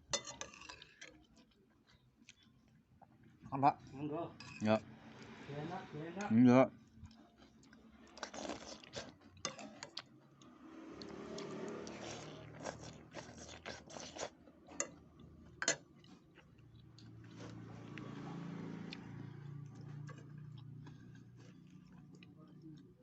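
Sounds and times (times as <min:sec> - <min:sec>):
person chewing food: 0:00.0 - 0:03.4, 0:06.8 - 0:23.0.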